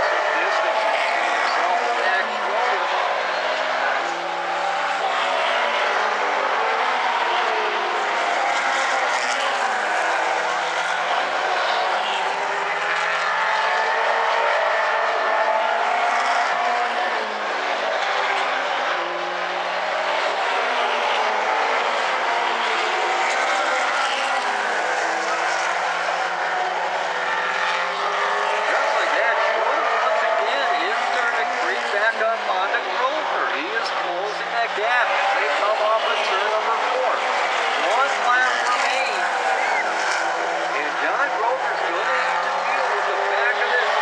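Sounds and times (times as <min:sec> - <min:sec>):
race car engines droning: 0:00.0 - 0:44.0.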